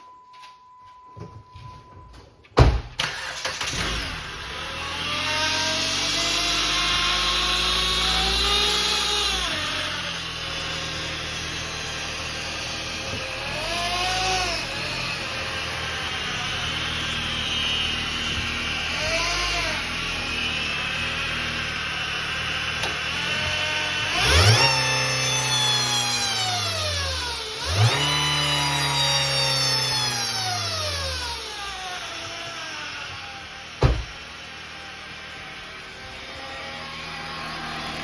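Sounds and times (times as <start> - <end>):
car engine starting and revving: 3.0 - 10.7, 12.0 - 35.4.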